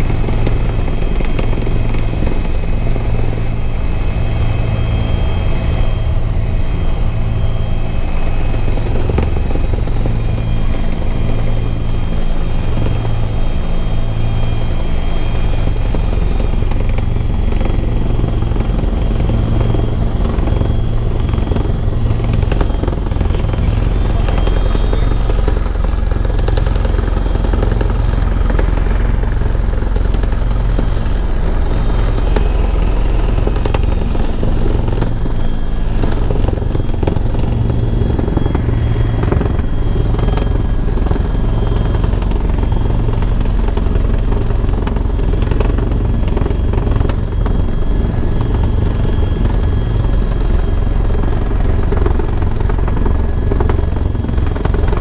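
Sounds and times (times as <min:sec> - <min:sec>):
helicopter rotor drone: 0:00.0 - 0:55.0
high turbine whine: 0:00.0 - 0:55.0.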